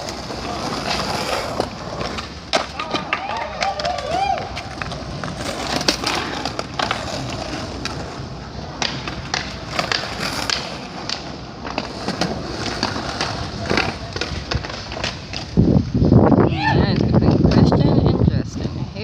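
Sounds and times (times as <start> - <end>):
skateboard clacking on landing: 0.0 - 15.7
skateboard wheels rolling: 0.0 - 19.0.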